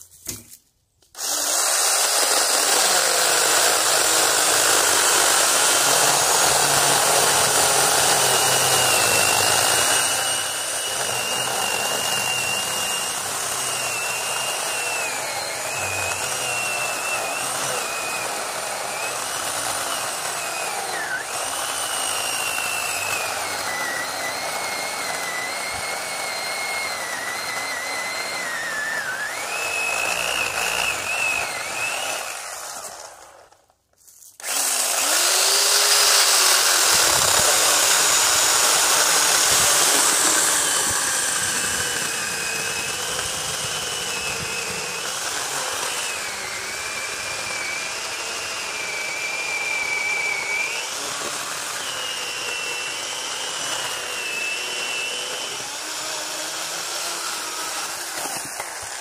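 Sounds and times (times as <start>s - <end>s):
electric chainsaw cutting log: 0.3s - 59.0s.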